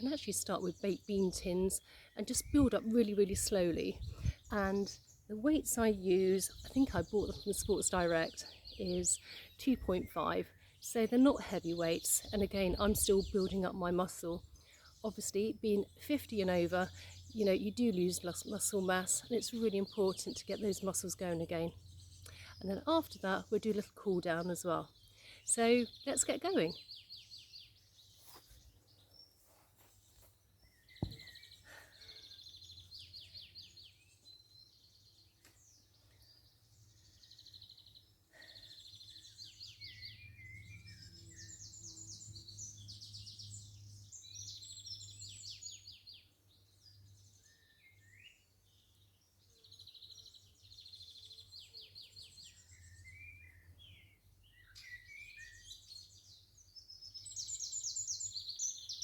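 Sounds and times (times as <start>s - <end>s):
birds singing and chirping: 0.0s - 59.0s.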